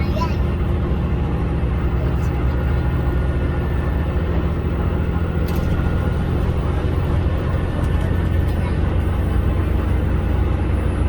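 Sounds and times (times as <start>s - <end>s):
train diesel engine and wheels rumbling: 0.0s - 11.0s.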